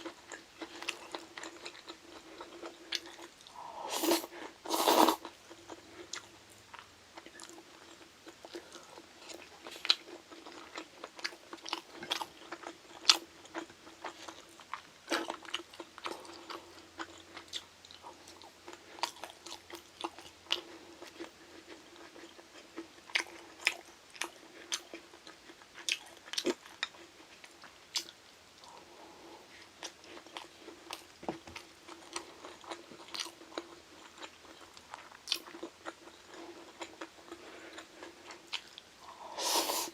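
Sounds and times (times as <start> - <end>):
chewing and crunching food: 0.0 - 39.9
faint steady hum: 0.0 - 39.9.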